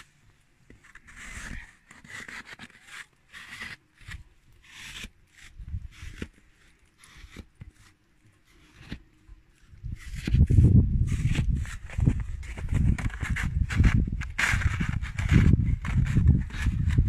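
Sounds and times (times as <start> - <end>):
scraper scraping snow: 0.8 - 9.0, 9.8 - 17.0.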